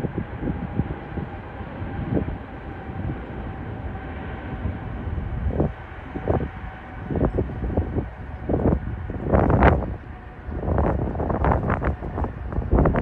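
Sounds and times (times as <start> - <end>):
faint engine whine: 0.0 - 13.0
jet engines rumbling: 0.0 - 13.0
wind gusts on microphone: 0.0 - 13.0.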